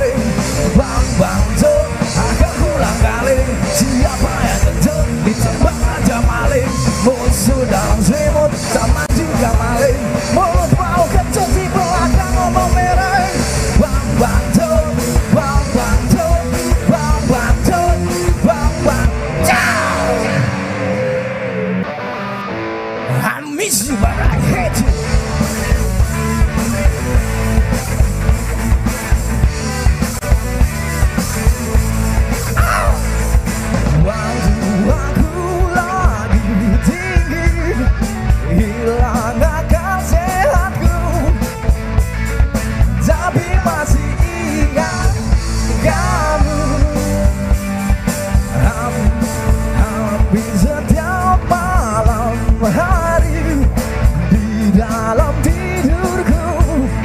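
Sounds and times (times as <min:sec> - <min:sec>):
drum kit beat: 0:00.0 - 0:20.6, 0:23.7 - 0:57.0
rock band playing: 0:00.0 - 0:57.0.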